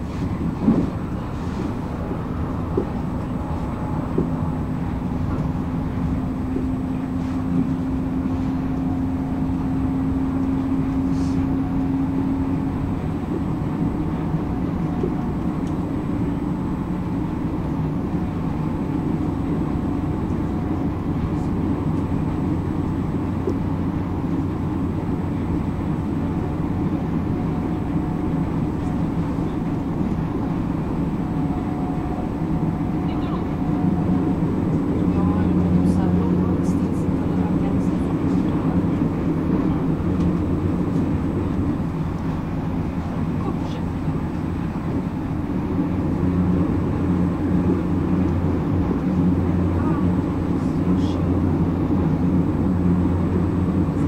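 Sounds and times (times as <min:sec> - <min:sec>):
running gear hum: 0:00.0 - 0:54.0
train rumble and rail noise: 0:00.0 - 0:54.0.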